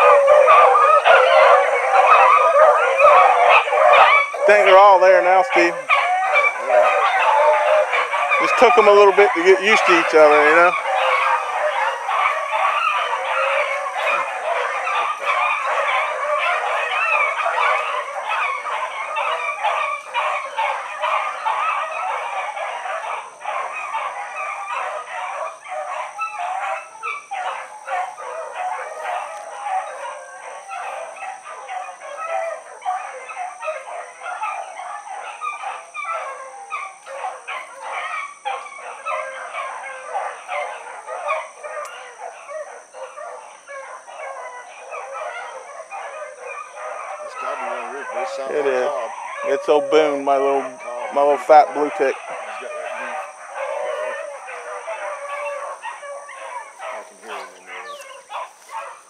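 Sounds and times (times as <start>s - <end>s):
hounds baying and barking: 0.0s - 59.0s.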